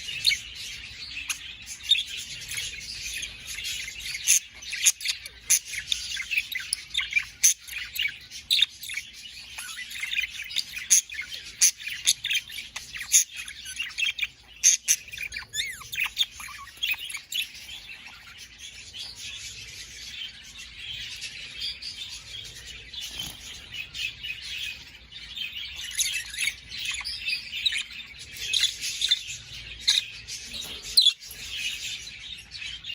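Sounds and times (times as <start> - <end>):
budgerigars warbling and chirping: 0.0 - 32.9.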